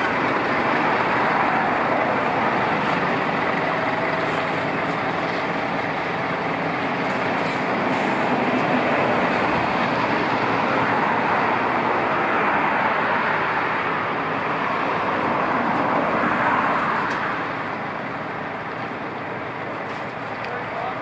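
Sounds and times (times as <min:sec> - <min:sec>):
truck engine and rolling tyres: 0:00.0 - 0:21.0.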